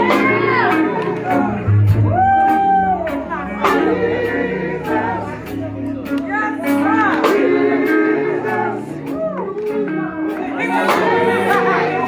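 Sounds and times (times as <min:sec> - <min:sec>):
bass: 0:00.0 - 0:12.0
guitar: 0:00.0 - 0:12.0
voices singing gospel: 0:00.0 - 0:12.0.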